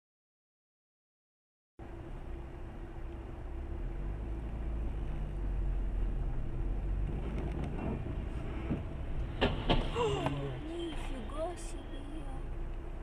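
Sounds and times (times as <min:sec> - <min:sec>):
car engine and road rumble: 0:01.8 - 0:13.0.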